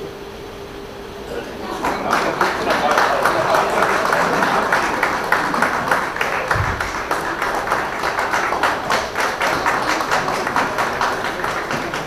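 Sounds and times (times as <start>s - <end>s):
audience applauding: 1.4s - 12.0s.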